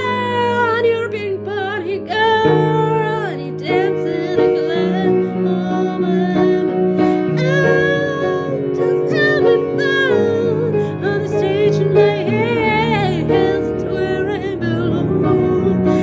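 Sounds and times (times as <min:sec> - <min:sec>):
sustained piano chords: 0:00.0 - 0:16.0
woman singing wordless notes: 0:00.0 - 0:16.0.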